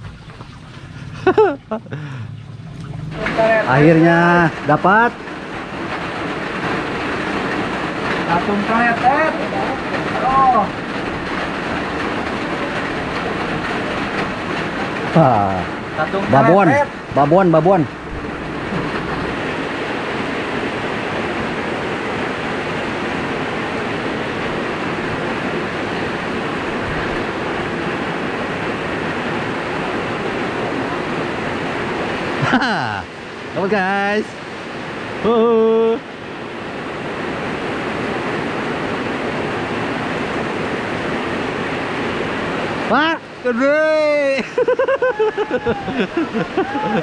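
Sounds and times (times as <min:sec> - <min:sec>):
heavy rain on water: 0:00.0 - 0:47.0.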